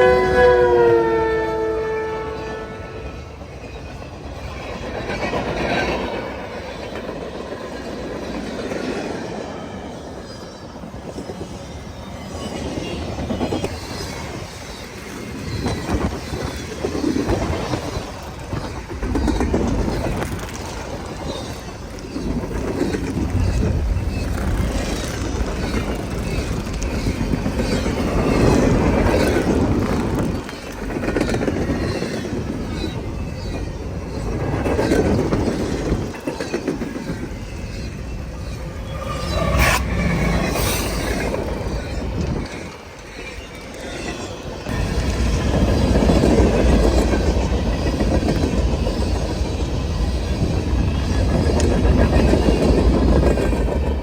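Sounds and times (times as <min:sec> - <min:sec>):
train clattering over rails: 0:02.4 - 0:54.0.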